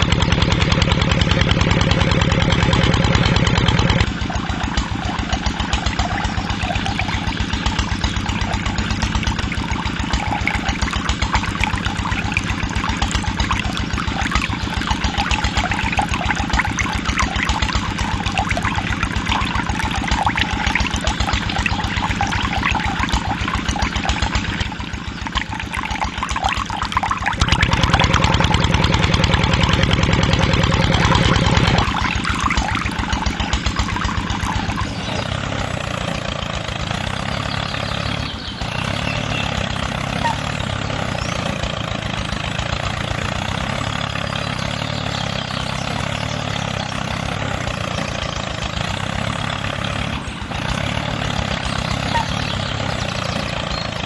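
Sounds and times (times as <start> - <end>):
small engine pulsing: 0.0 - 54.0.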